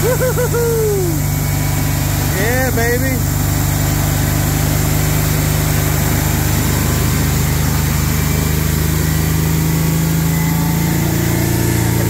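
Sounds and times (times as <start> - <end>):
slight engine shriek: 0.0 - 12.0
truck engine idling: 0.0 - 12.0.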